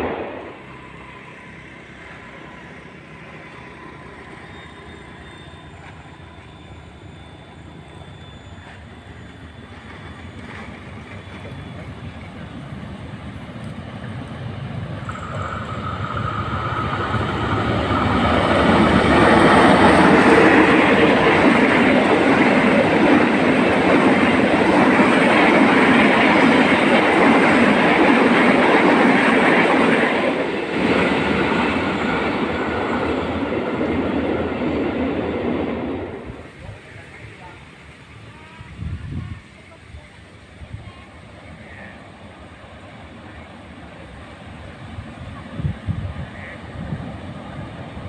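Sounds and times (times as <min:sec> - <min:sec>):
train wheels rushing on track: 0:00.0 - 0:48.0.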